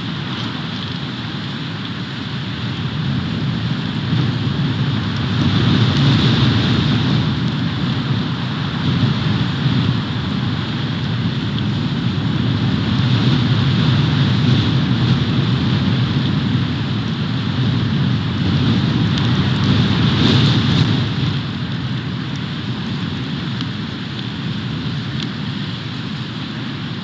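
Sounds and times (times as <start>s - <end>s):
wind blowing on microphone: 0.0s - 27.0s.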